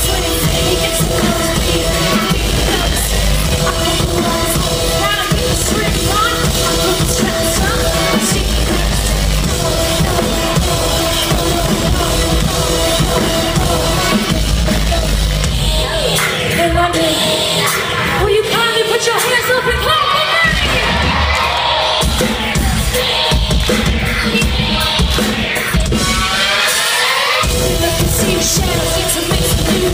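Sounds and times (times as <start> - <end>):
live band playing loud music: 0.0 - 29.9
pounding drum kit: 0.0 - 29.9.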